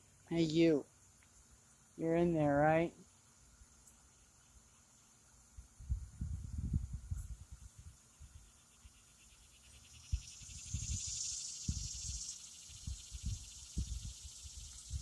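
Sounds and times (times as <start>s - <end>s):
insect buzzing trill: 0.0s - 15.0s.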